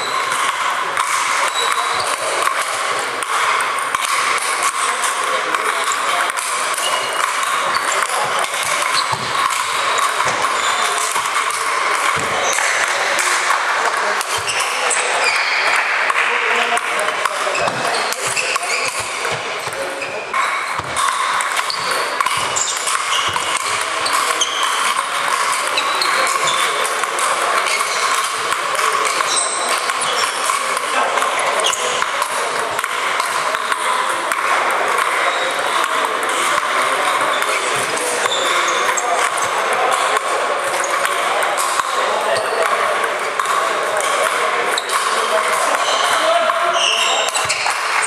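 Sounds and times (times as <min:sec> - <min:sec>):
murmur of voices: 0:00.0 - 0:48.0
table tennis balls clicking: 0:00.0 - 0:48.0.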